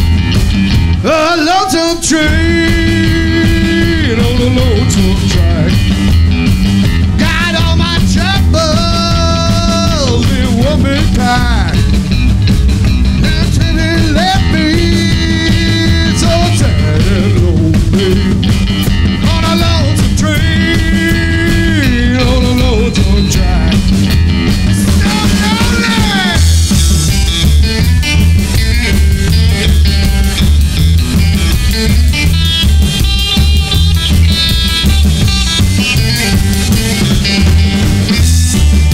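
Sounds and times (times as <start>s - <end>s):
bending lead guitar notes: 0.0s - 38.9s
drum kit: 0.0s - 38.9s
electric guitar: 0.0s - 38.9s
upright bass: 0.0s - 38.9s.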